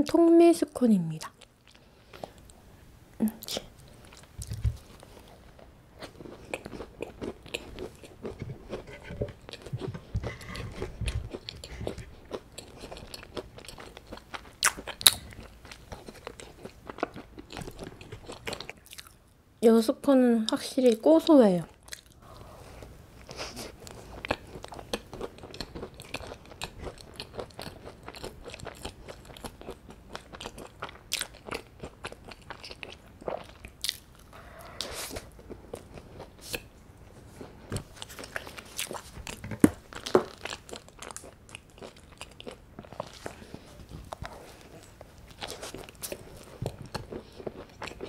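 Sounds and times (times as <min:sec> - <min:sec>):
crunchy chewing: 0:03.4 - 0:19.2, 0:21.7 - 0:36.7, 0:37.4 - 0:48.0.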